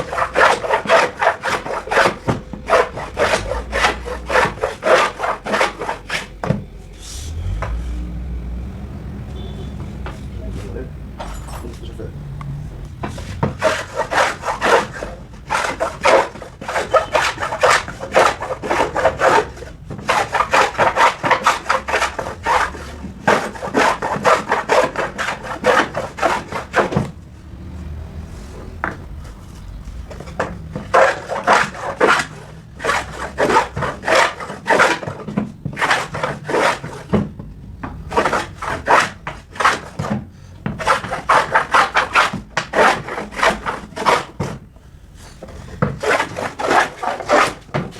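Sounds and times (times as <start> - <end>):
hand tool working wood: 0.0 - 8.2, 9.2 - 47.9.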